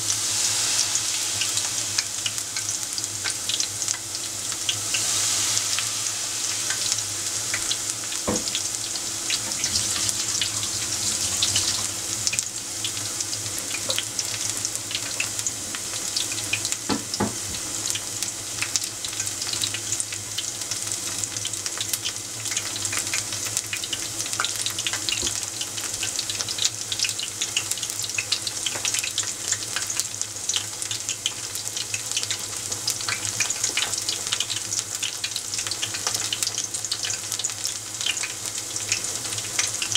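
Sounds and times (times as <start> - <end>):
frying in hot oil: 0.0 - 39.9.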